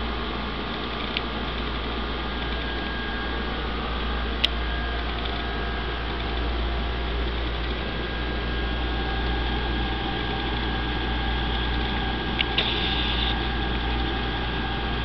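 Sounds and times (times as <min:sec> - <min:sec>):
low electric hum: 0:00.0 - 0:15.0.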